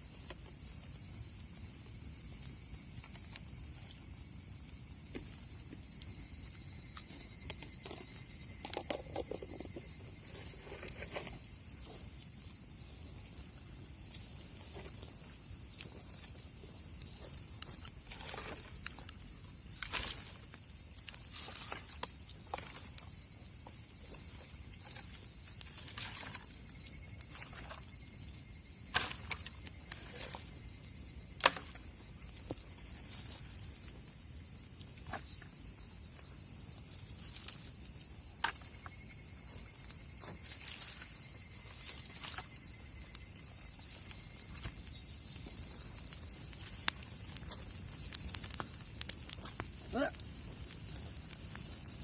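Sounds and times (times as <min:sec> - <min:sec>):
campfire crackling: 0:00.0 - 0:52.0
insect drone: 0:00.0 - 0:52.0
sharp pops from fire: 0:00.1 - 0:52.0.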